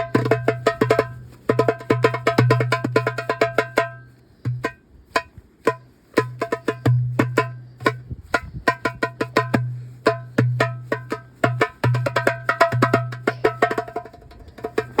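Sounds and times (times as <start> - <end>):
goblet drum playing: 0.0 - 15.0.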